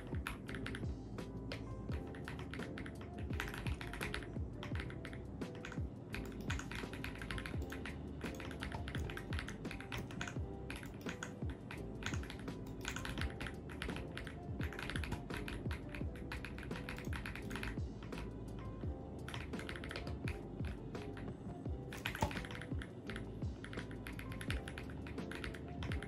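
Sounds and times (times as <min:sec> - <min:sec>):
mechanical keyboard typing: 0:00.0 - 0:00.9, 0:01.5 - 0:18.4, 0:19.2 - 0:21.3, 0:21.9 - 0:26.0
background music: 0:00.0 - 0:26.0.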